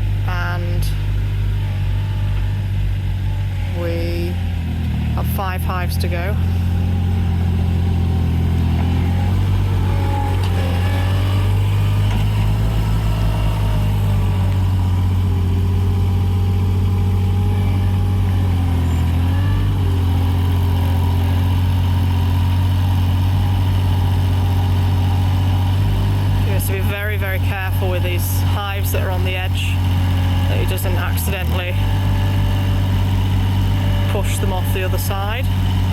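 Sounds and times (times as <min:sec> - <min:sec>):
loader engine running: 0:00.0 - 0:35.9.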